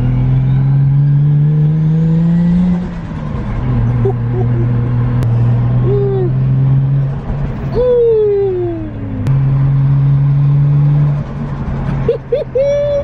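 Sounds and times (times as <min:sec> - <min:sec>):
car engine droning in cabin: 0:00.0 - 0:13.0.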